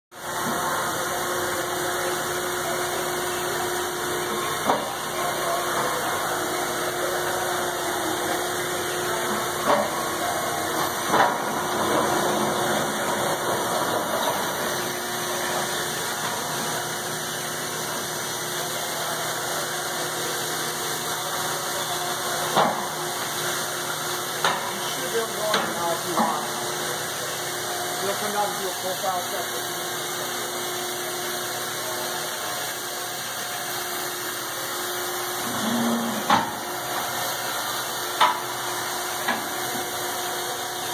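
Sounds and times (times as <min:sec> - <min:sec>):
machinery hum and hiss: 0:00.2 - 0:40.9.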